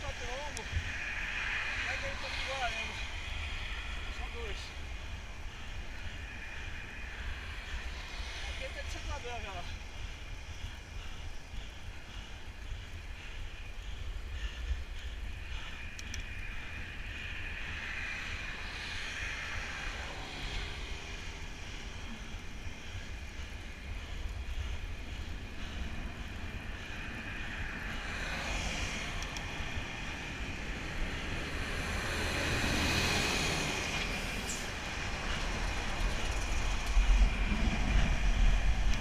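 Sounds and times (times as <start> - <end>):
bicycle tyres on wet road: 0.0 - 39.0
wind rushing over microphone: 0.0 - 39.0.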